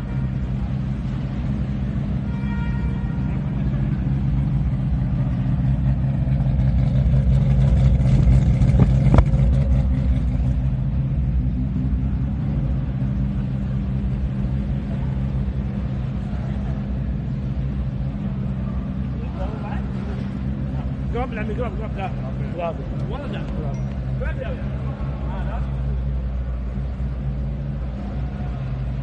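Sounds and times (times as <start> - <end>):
car engine running at low revs: 0.0 - 29.0.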